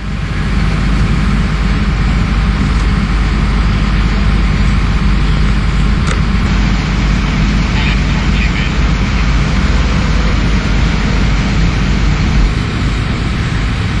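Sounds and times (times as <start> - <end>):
road vehicle noise: 0.0 - 14.0.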